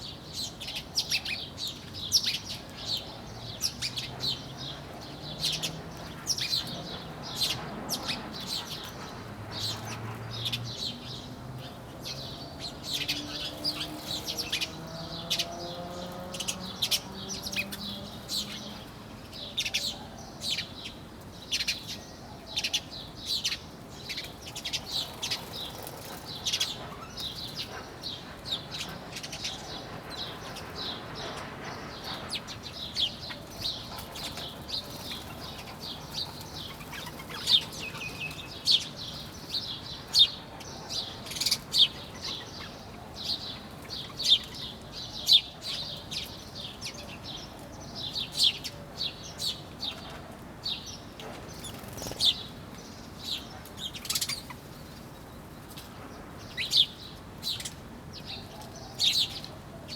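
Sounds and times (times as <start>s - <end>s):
flock of small birds chirping: 0.0s - 59.9s.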